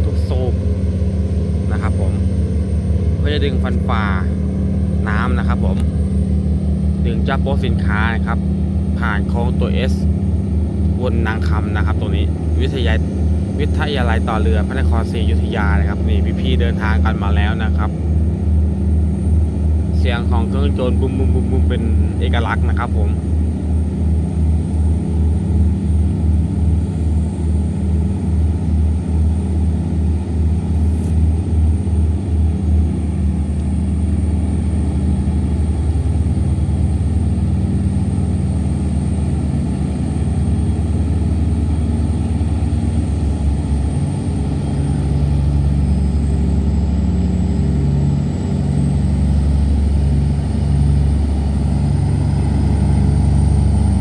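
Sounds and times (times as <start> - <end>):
tugboat diesel engines thumping: 0.0 - 54.0.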